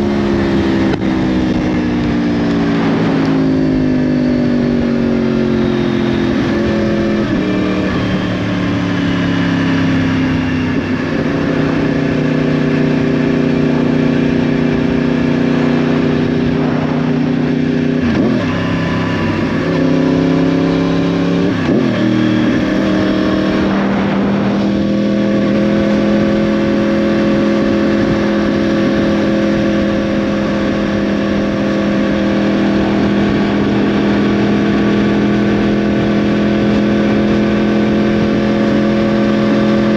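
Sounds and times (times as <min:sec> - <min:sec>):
motorcycle engine at steady revs: 0:00.0 - 0:39.9.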